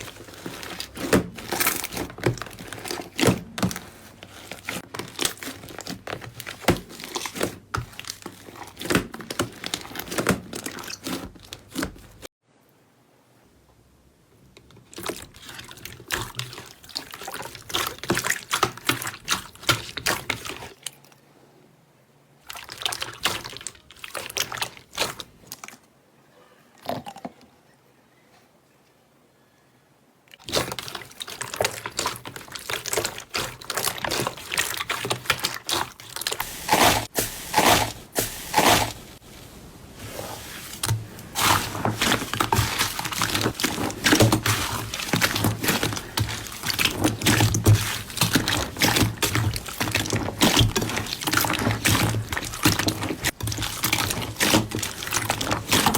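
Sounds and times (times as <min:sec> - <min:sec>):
slime squelching and crackling: 0:00.0 - 0:12.3, 0:14.8 - 0:21.0, 0:22.4 - 0:25.9, 0:30.3 - 0:55.9.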